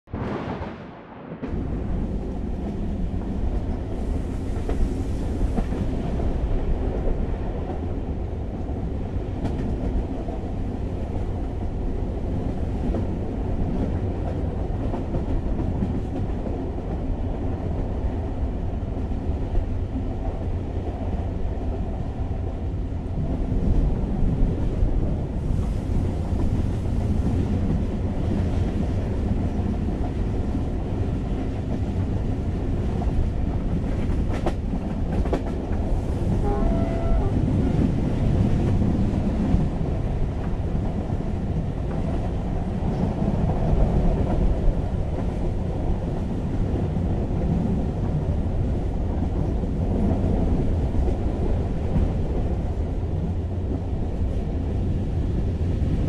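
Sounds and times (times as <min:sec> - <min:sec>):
train wheels rumbling on track: 0:01.4 - 0:56.0.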